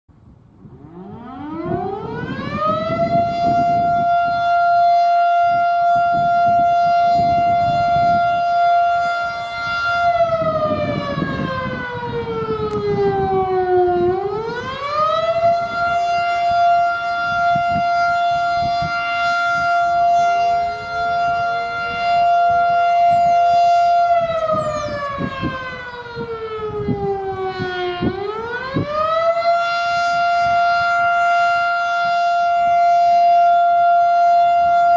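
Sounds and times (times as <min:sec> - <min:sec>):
storm siren wailing: 0:00.2 - 0:34.9.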